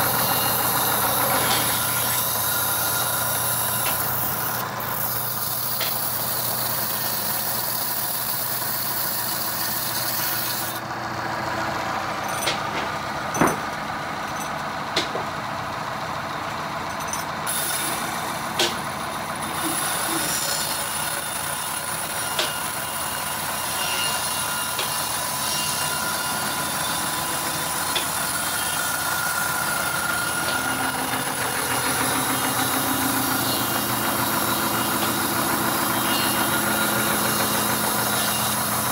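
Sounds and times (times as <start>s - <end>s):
band saw cutting log: 0.0s - 11.5s, 17.5s - 38.9s.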